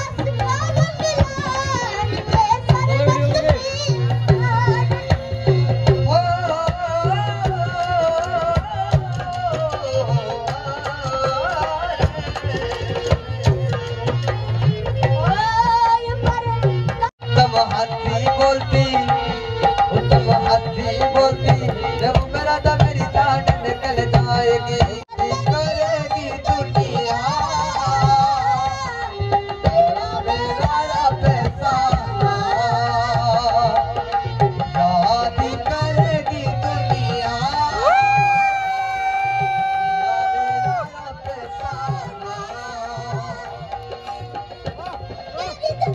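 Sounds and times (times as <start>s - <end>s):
ornamented sung melody: 0.0s - 45.9s.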